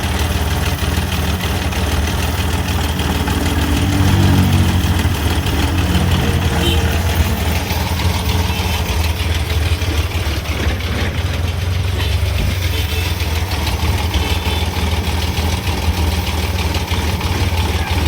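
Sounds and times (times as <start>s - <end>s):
mini truck engine idling: 0.0s - 18.0s.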